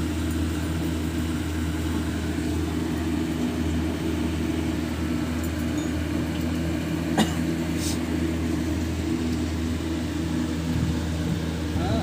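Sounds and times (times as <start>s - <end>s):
steady low machine hum: 0.0s - 12.0s.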